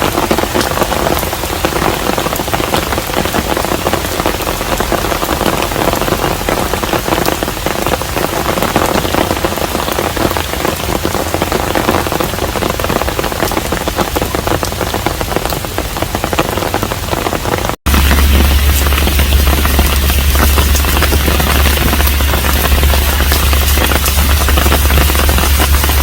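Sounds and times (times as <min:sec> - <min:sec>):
steady rain falling on a house: 0:00.0 - 0:26.0.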